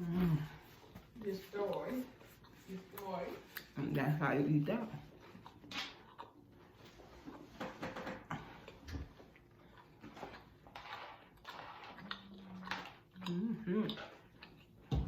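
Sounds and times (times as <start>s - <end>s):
person chewing food: 0.0s - 3.8s, 5.0s - 15.0s.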